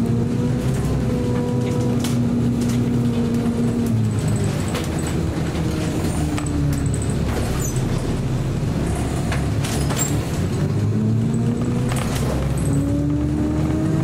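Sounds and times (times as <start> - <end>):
bus engine running: 0.0 - 14.0
clicks and rattles from bus body: 0.0 - 14.0.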